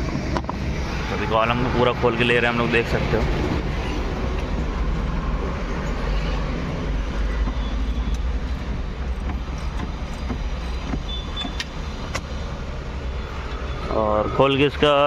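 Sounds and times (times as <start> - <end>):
workshop background rumble: 0.0 - 13.4.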